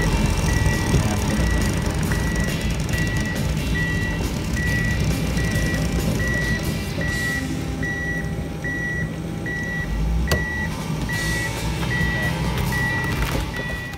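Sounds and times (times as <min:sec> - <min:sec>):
engine rumble: 0:00.0 - 0:13.9
reversing alarm beeping: 0:00.0 - 0:13.9.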